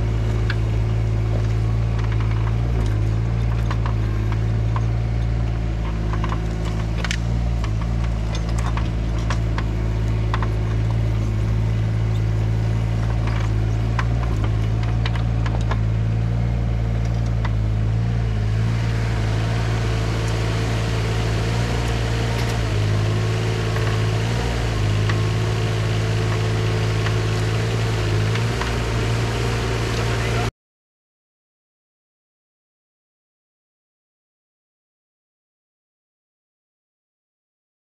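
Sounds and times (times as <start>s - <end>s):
excavator diesel engine running: 0.0s - 30.5s.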